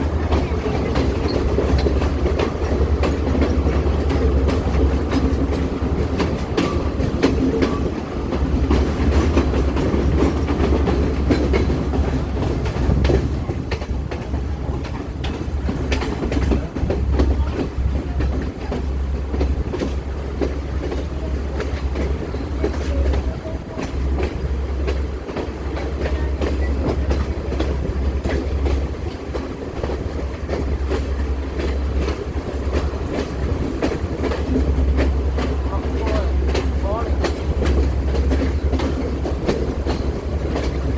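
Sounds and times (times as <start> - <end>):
train rumbling on rails: 0.0 - 40.9
wheels clattering over rail joints: 0.0 - 40.9.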